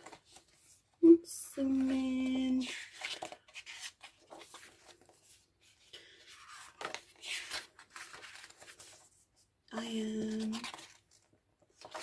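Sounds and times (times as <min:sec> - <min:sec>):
paper rustling: 0:00.0 - 0:00.9, 0:01.6 - 0:12.0.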